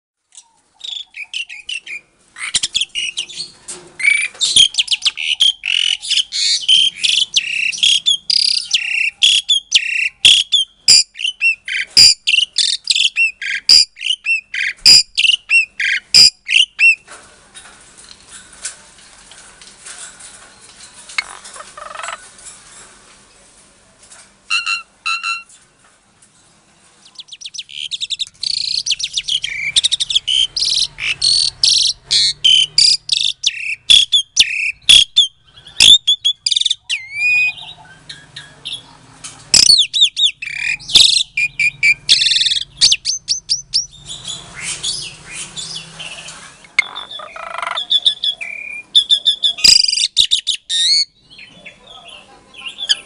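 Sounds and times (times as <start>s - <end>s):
starling singing: 0.3s - 17.1s, 20.5s - 22.4s, 24.5s - 25.6s, 27.0s - 53.0s.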